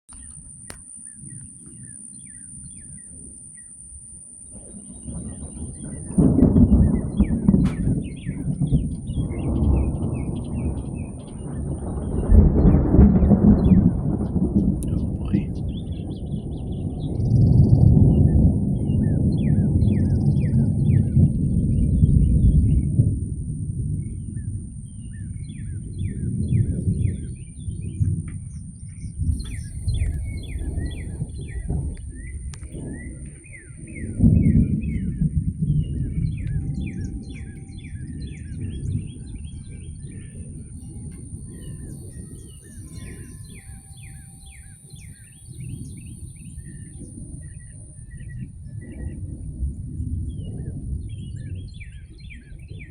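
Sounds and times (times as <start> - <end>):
birds chirping: 0.1 - 23.0, 23.9 - 49.3
high-pitched whine: 0.1 - 49.1
thunder rumbling: 0.1 - 52.9.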